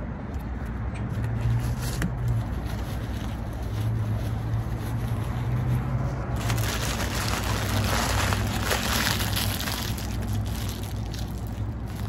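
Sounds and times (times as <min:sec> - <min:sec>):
paper wrapper crinkling: 0:01.3 - 0:12.0.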